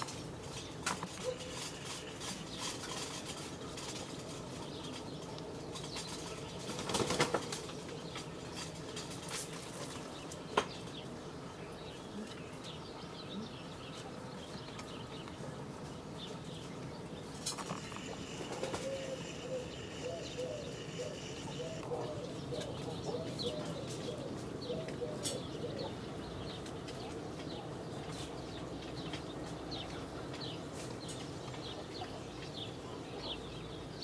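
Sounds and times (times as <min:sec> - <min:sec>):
distant birds calling: 0:00.0 - 0:34.0.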